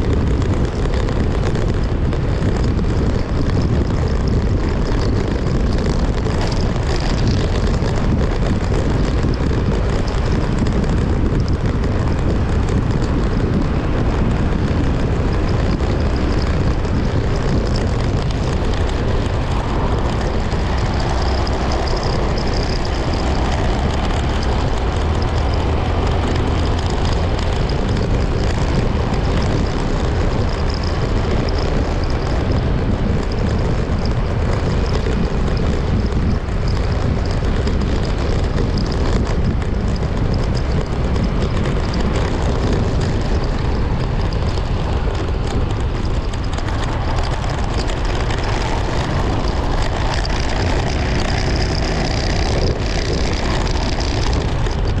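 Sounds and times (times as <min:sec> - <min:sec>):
engine and road noise: 0:00.0 - 0:55.0
wind rumbling on microphone: 0:00.0 - 0:55.0.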